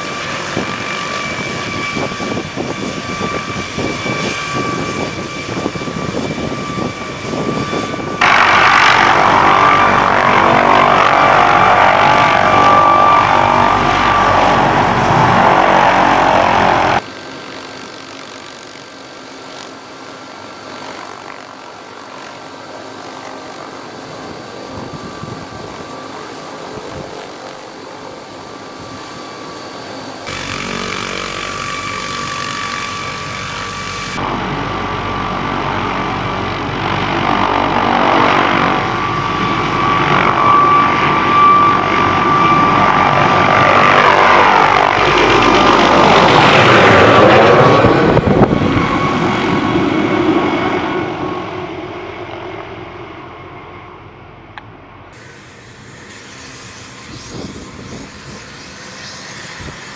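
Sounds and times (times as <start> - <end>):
helicopter rotor beat: 0.0 - 59.9
helicopter turbine whine: 0.0 - 59.9.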